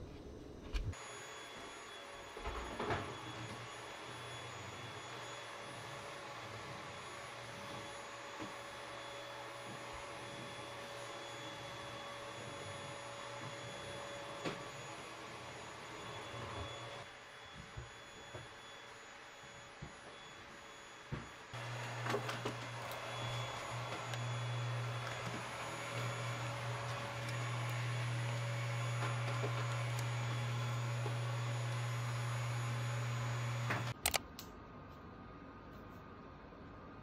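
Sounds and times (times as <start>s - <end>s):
vacuum cleaner humming: 0.0s - 34.0s.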